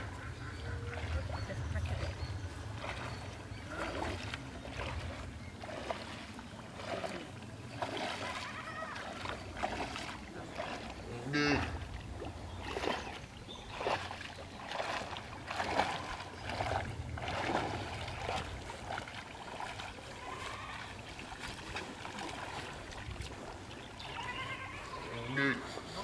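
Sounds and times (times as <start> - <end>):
muddy water splashing: 0.0 - 26.0.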